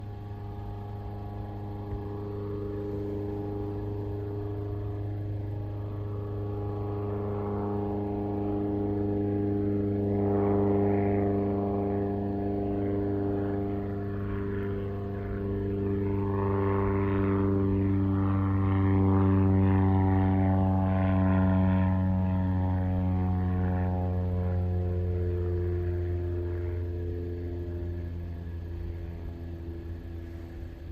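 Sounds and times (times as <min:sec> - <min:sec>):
turboprop aircraft droning: 0:00.0 - 0:30.9.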